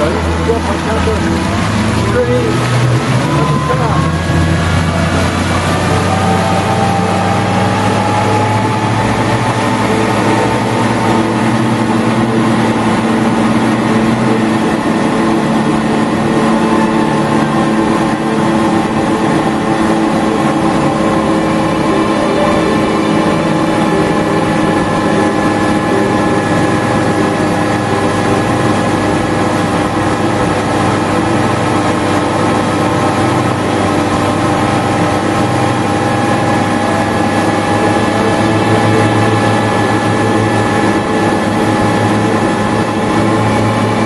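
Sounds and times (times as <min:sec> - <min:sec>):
motorboat engine humming: 0:00.0 - 0:44.0
rush of boat wake: 0:00.0 - 0:44.0.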